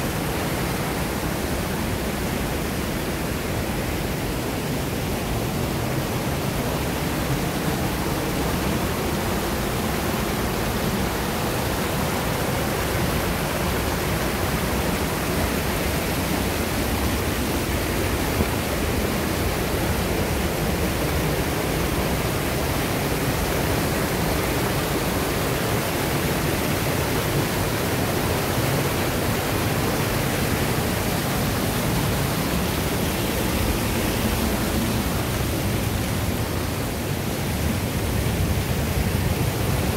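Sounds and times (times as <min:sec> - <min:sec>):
small waterfall rushing over rocks: 0:00.0 - 0:39.9.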